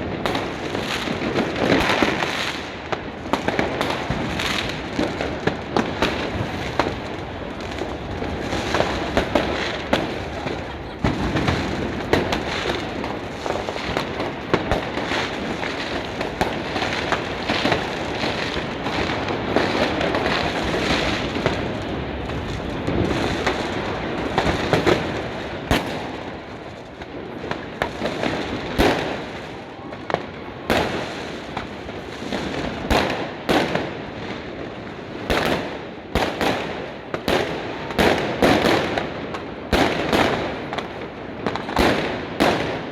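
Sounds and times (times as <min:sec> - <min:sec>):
firecracker bangs: 0:00.0 - 0:26.3, 0:27.4 - 0:42.9
fireworks crackling: 0:00.0 - 0:42.9.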